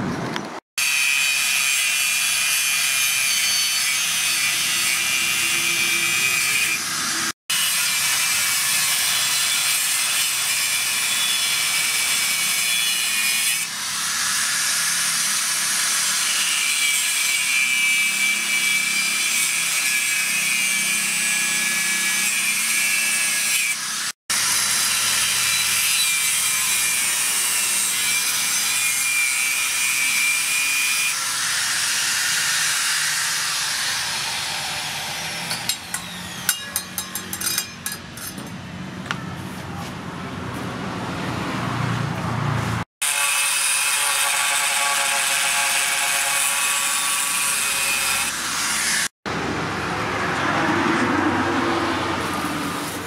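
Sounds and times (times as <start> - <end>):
angle grinder cutting steel: 0.8 - 38.6, 43.0 - 49.1.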